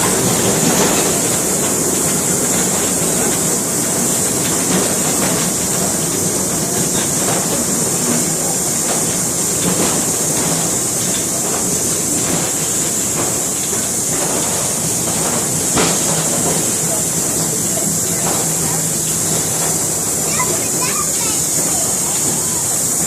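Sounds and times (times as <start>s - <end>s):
train rumble and hiss: 0.0s - 23.0s
wheels clicking over rails: 0.0s - 23.0s.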